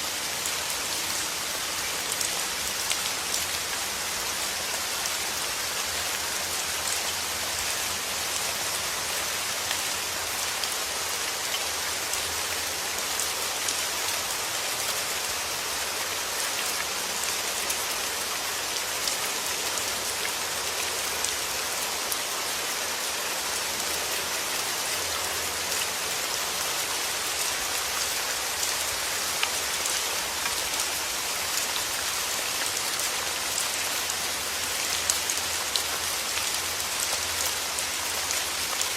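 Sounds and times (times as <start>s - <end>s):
soft rain falling: 0.0s - 38.9s.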